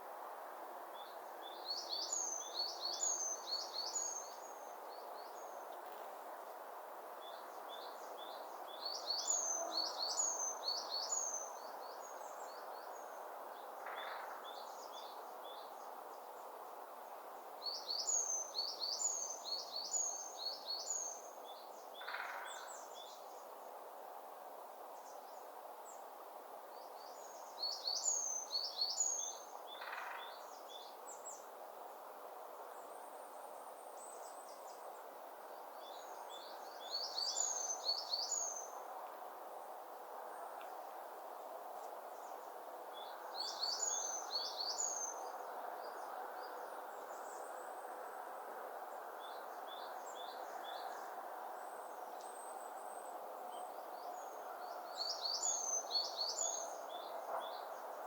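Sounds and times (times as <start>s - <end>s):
songbird singing: 0.9s - 6.0s, 7.2s - 23.7s, 25.0s - 31.6s, 32.6s - 58.0s.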